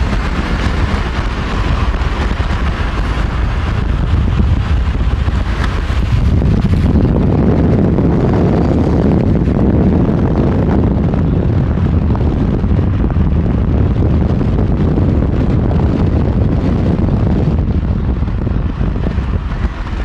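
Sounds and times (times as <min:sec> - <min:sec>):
car road and wind noise: 0:00.0 - 0:20.0.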